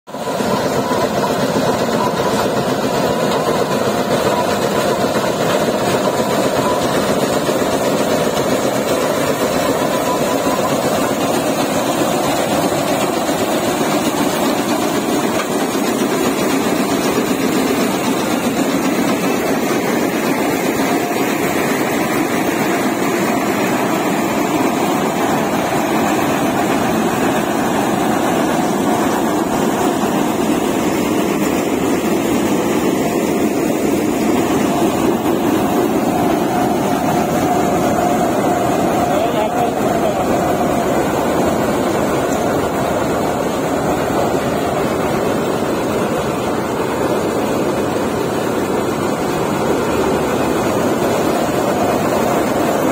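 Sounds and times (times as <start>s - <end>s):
combine harvester running: 0.1s - 52.9s.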